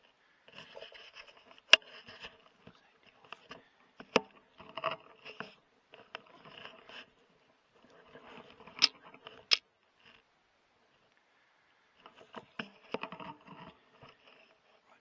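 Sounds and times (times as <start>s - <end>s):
rubbing and scraping handling noise: 0.0s - 10.3s, 12.0s - 14.9s.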